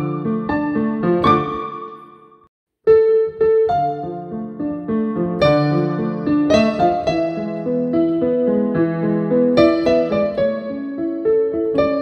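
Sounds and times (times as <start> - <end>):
digital piano chords and melody: 0.0 - 12.0.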